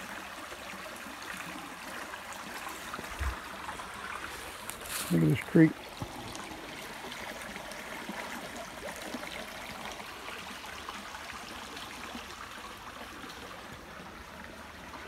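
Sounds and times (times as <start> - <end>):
creek babbling over rocks: 0.0 - 15.0.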